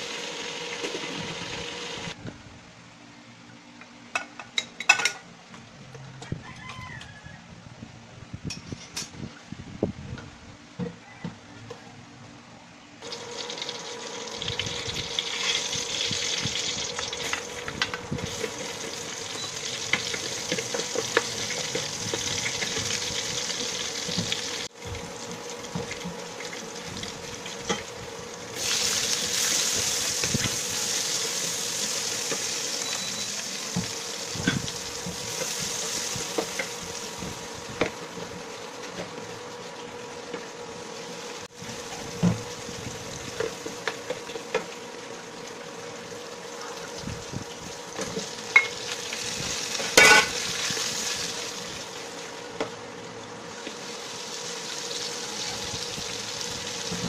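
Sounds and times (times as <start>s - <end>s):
garlic sizzling in hot oil: 0.0s - 2.2s, 13.0s - 57.0s.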